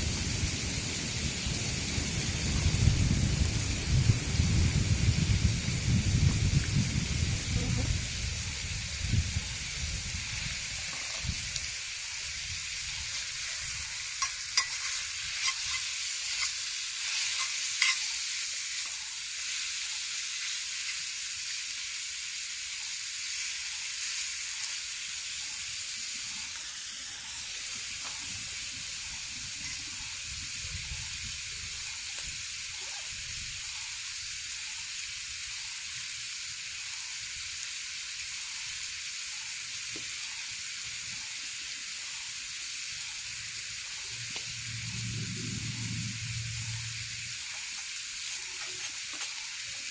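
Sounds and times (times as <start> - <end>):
food sizzling in a pan: 0.0 - 49.9.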